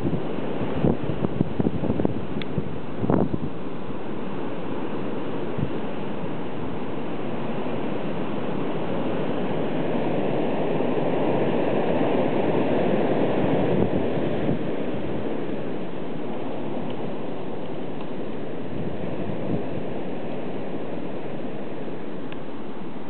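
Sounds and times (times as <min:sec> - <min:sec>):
wind buffeting the microphone: 0:00.0 - 0:22.5
wind blowing through trees: 0:00.0 - 0:23.0.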